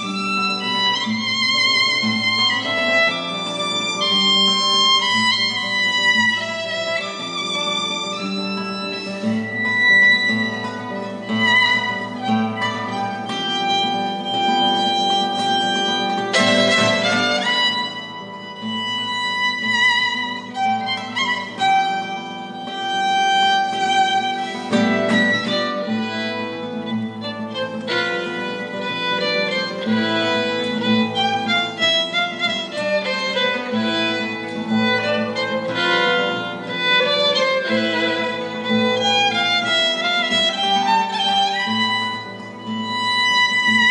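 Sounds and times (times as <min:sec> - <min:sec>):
string orchestra playing: 0:00.0 - 0:43.9.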